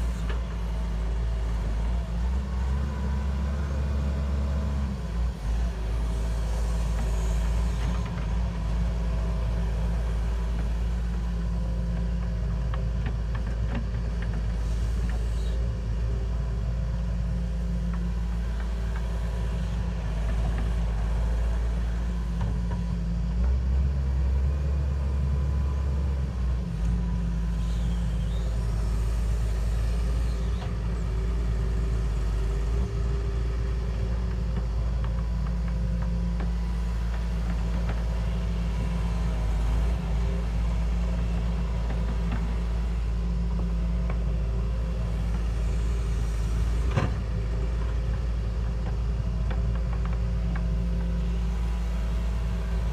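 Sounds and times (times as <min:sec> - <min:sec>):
heavy machine engine rumbling: 0:00.0 - 0:52.9.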